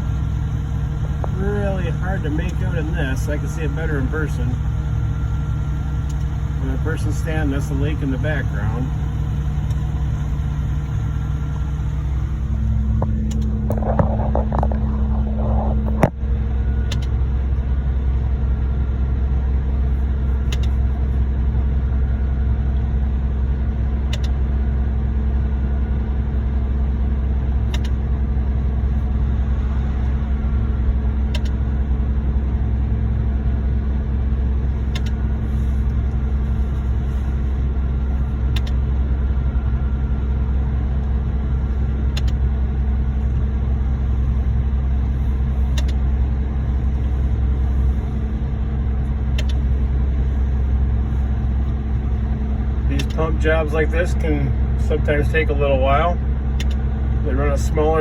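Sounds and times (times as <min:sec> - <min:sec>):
diesel truck engines running: 0:00.0 - 0:58.0.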